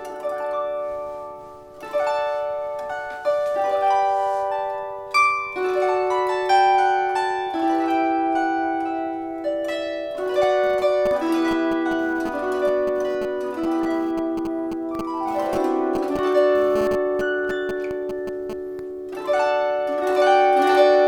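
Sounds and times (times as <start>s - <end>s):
plucked psaltery: 0.0s - 21.0s.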